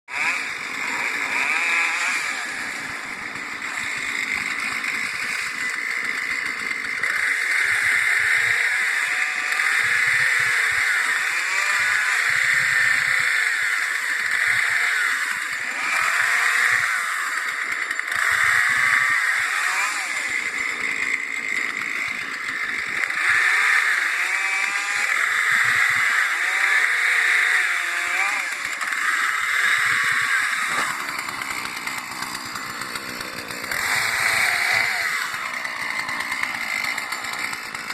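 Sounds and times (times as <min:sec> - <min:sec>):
chainsaw cutting a tree: 0:00.0 - 0:37.9.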